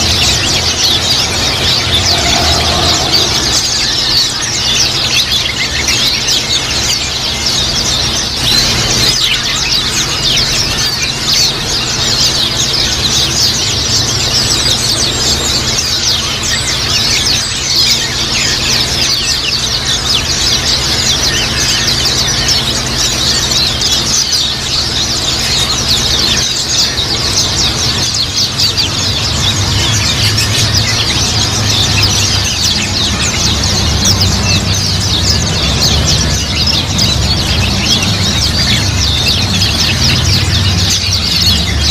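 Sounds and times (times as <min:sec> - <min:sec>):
flock of birds chirping: 0:00.0 - 0:41.9
steady low hum: 0:00.0 - 0:41.9.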